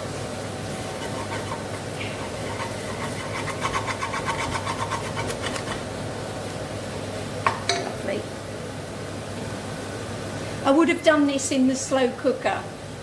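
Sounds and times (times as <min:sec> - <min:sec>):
extractor fan humming: 0:00.0 - 0:13.0.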